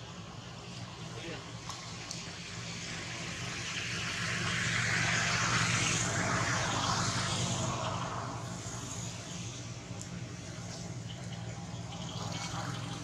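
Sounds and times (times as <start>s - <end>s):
steady low hum: 0.0s - 13.0s
vehicle passing by: 1.2s - 13.0s.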